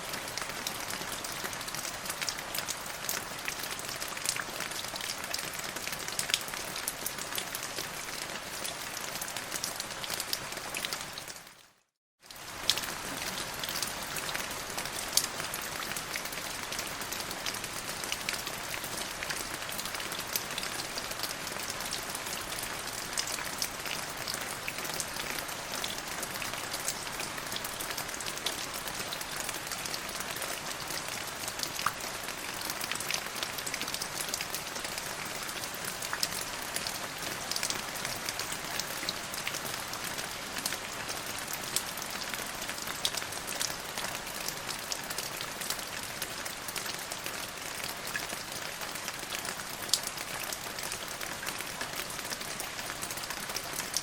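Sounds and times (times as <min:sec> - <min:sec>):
rain on a hard surface: 0:00.0 - 0:54.0.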